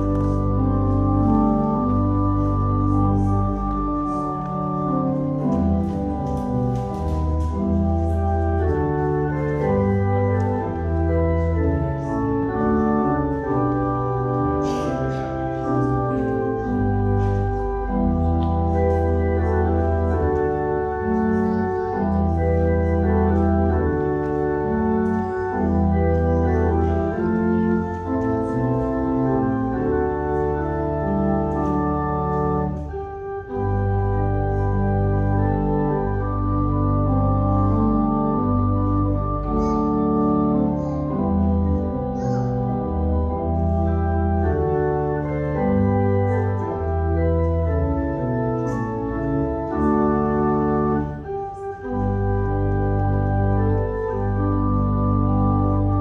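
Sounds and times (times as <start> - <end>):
organ playing sustained chords: 0.0 - 56.0.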